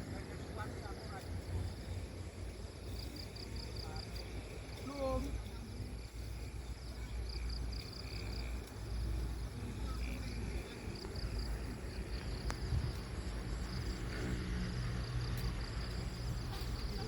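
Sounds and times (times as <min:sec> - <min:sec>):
insects chirping trill: 0:00.0 - 0:17.0.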